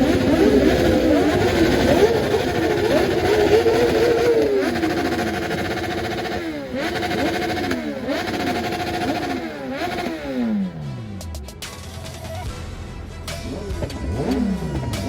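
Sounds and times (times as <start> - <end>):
motorcycle engines revving: 0.0 - 11.4, 13.3 - 15.0.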